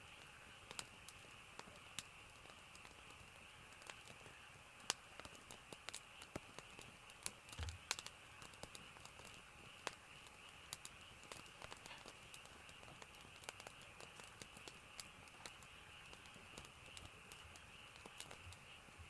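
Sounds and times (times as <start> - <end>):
soft steady hiss: 0.0 - 19.0
faint small clicks and taps: 0.2 - 3.2, 3.8 - 18.7.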